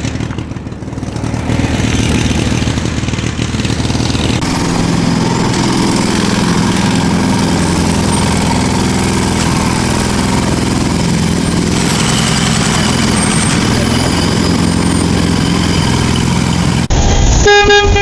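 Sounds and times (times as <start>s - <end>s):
engine idling: 0.0s - 16.9s.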